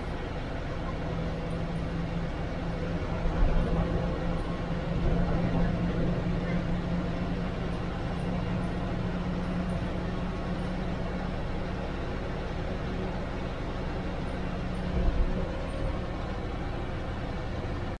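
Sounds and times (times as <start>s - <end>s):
bus engine hum: 0.0s - 18.0s
road and wind noise: 0.0s - 18.0s.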